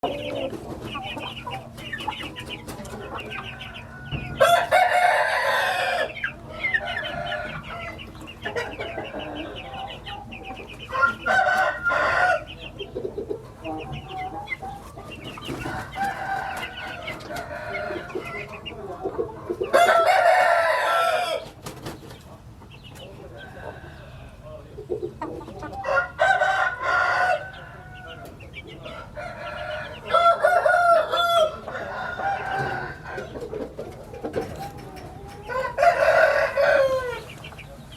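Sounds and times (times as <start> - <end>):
roosters crowing: 0.0 - 22.1, 23.0 - 37.9
chickens clucking: 0.0 - 37.9.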